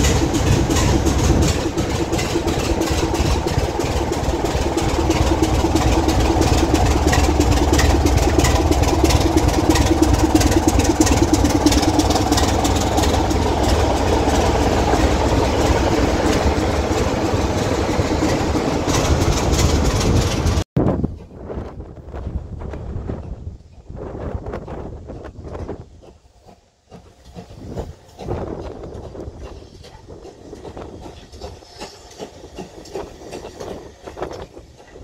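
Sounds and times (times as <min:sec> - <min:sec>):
diesel locomotive engine drone: 0:00.0 - 0:35.0
locomotive rattle: 0:00.0 - 0:35.0.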